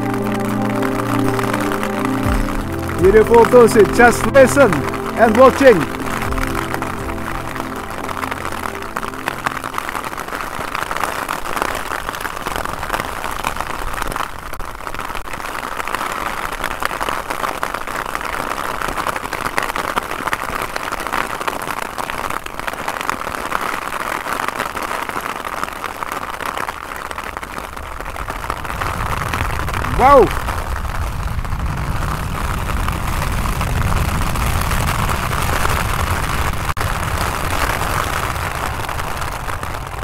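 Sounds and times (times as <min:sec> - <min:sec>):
heavy rain pouring: 0:00.0 - 0:40.0.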